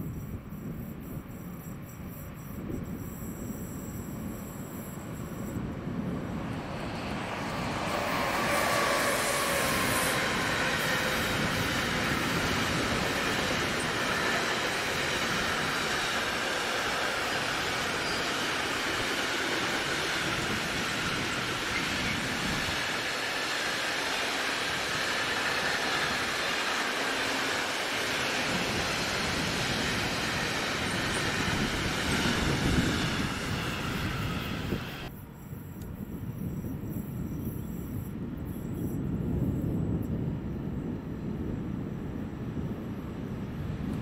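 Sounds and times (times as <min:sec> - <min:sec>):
train wheels rolling on rails: 0:00.0 - 0:44.0.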